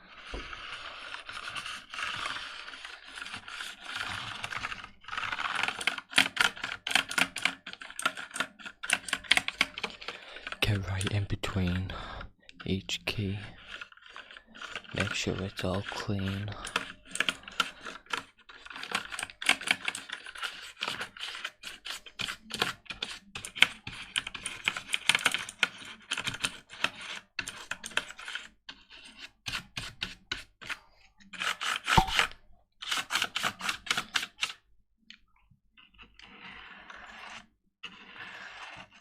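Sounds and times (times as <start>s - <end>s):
scratchy scrubbing: 0.0s - 34.4s, 35.7s - 39.0s.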